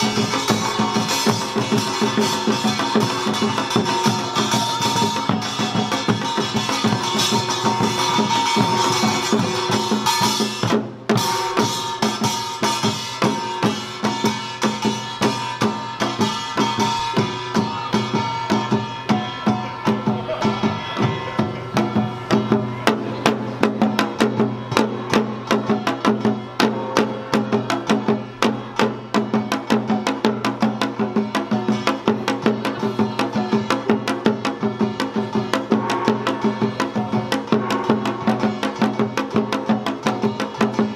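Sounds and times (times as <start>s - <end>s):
drum strokes: 0.0s - 40.9s
percussion ensemble playing: 0.0s - 40.9s.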